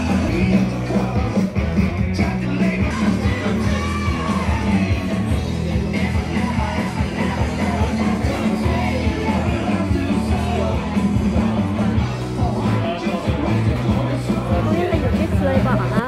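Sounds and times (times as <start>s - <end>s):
rock music with singer: 0.0s - 16.0s.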